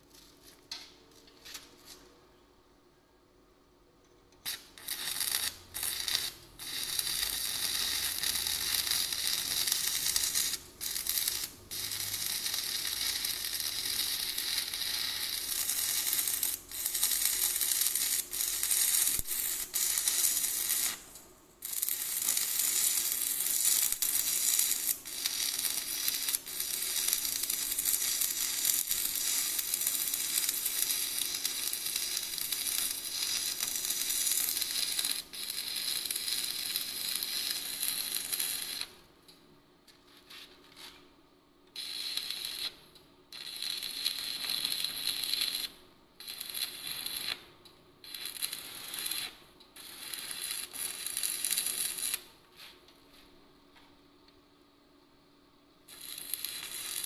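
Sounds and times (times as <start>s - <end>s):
arc welding crackling sizzle: 4.4s - 39.1s, 41.7s - 52.7s, 55.8s - 57.0s.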